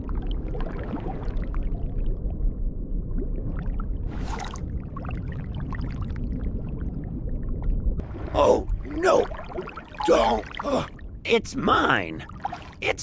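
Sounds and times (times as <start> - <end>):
bubbling and gurgling water: 0.0 - 11.2, 12.1 - 12.8
low underwater rumble: 0.0 - 11.2.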